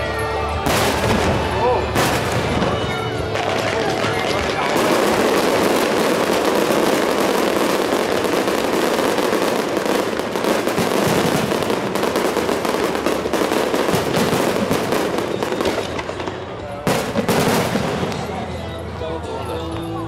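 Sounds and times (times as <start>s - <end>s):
fireworks exploding and crackling: 0.0s - 18.9s.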